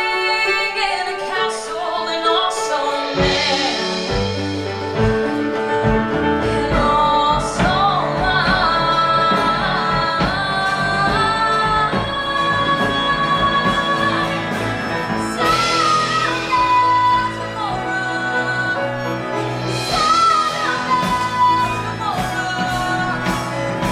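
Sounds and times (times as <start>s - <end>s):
woman singing into microphone: 0.0s - 4.3s, 6.4s - 23.9s
live band playing: 0.0s - 23.9s.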